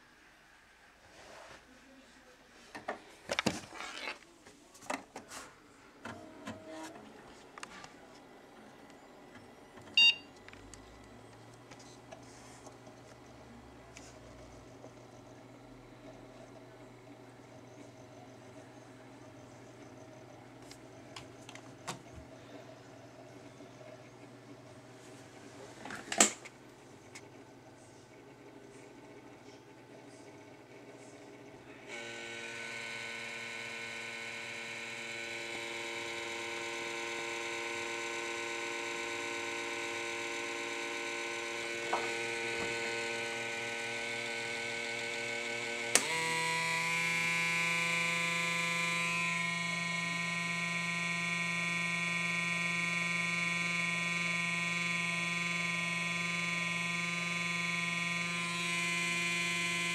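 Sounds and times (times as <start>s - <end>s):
computer electric hum: 5.6s - 59.9s.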